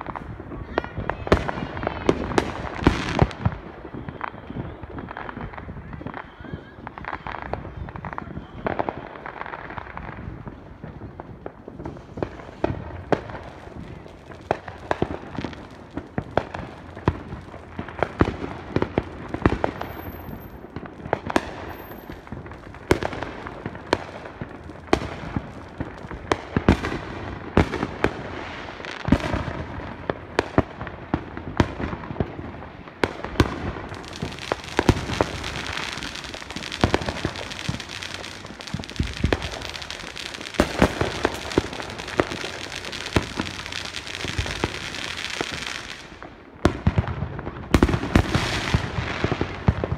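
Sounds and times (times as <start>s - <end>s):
fireworks bangs and pops: 0.0s - 49.9s
fireworks crackling: 0.0s - 49.9s.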